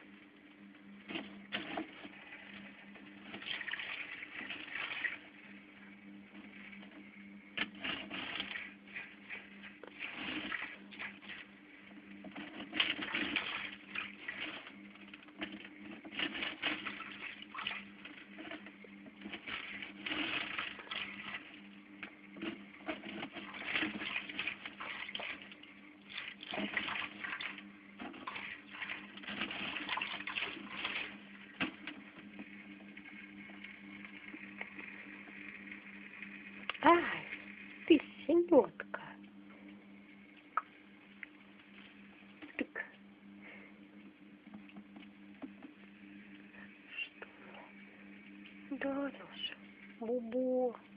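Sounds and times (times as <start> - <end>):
aquarium water sloshing: 0.0 - 50.9
low steady hum: 0.0 - 50.9.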